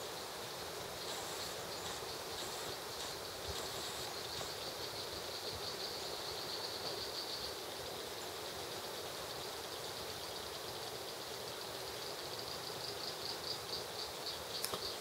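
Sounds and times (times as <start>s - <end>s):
high-pitched insect chorus: 0.0s - 15.0s
outdoor hiss: 0.0s - 15.0s.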